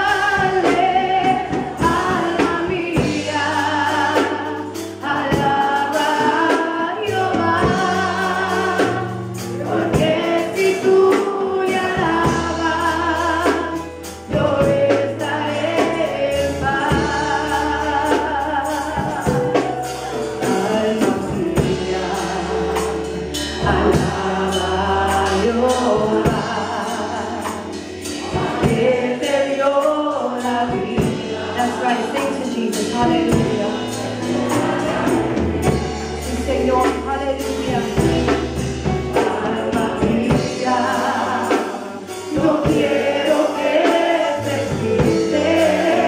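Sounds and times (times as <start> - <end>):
held bass notes: 0.0 - 46.0
percussion: 0.0 - 46.0
woman singing: 0.0 - 46.0.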